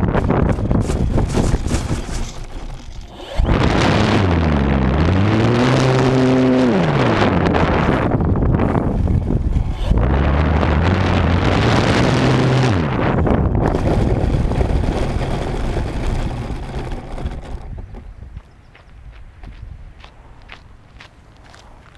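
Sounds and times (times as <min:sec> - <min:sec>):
electric motor and propeller: 0:00.0 - 0:18.3
wheels rolling rumble: 0:00.0 - 0:21.9.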